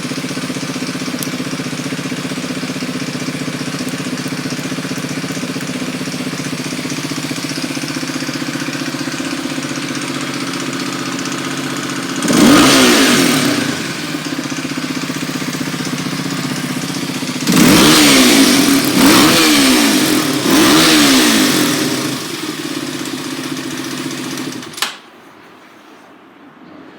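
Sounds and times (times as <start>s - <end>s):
motorcycle engine idling and revving: 0.0s - 24.8s.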